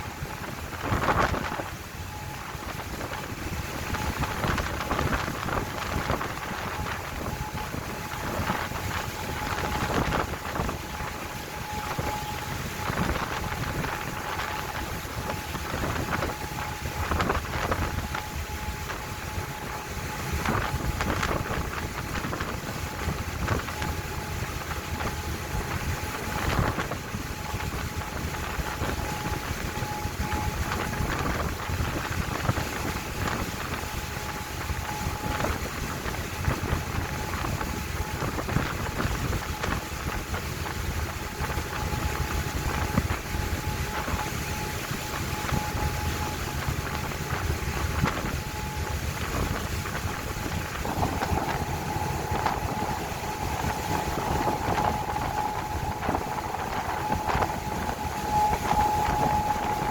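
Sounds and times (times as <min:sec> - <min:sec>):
faint steady whine: 0:00.0 - 0:59.9
sea water rushing around boat: 0:00.0 - 0:59.9
wind buffeting microphone: 0:00.0 - 0:59.9.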